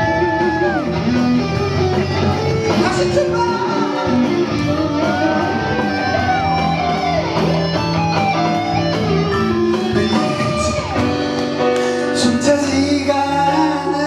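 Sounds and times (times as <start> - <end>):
bass guitar: 0.0 - 14.0
drums: 0.0 - 14.0
electric guitar with bent notes: 0.0 - 14.0.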